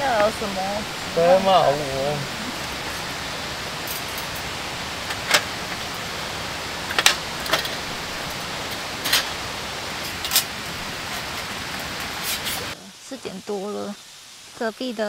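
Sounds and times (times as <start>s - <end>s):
shallow stream rushing: 0.0s - 15.0s.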